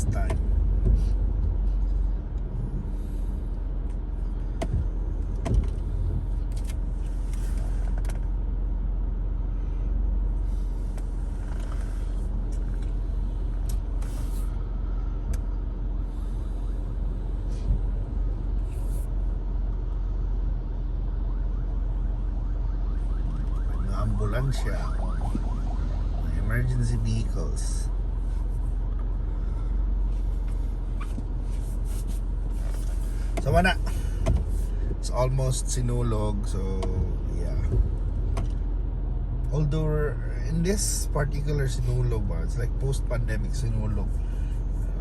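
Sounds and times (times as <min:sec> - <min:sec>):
car engine and road hum: 0:00.0 - 0:45.0.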